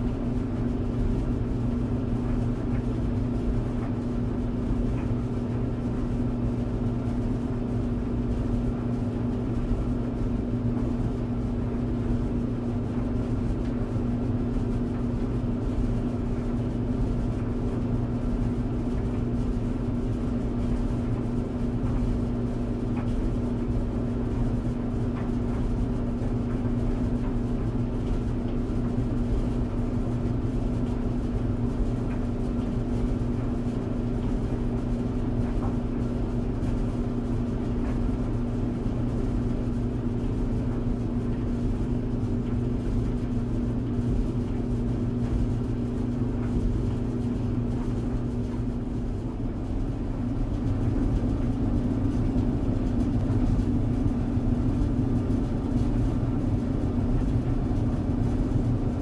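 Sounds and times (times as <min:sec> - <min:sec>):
rumble of turning drum: 0:00.0 - 0:59.0
tumble dryer motor hum: 0:00.0 - 0:59.0.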